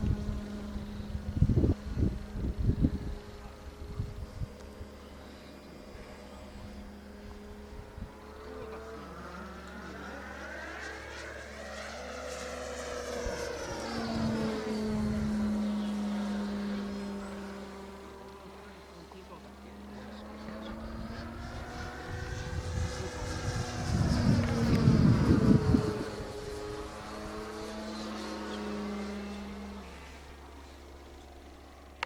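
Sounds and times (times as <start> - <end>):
model plane motor whine: 0.0 - 32.0.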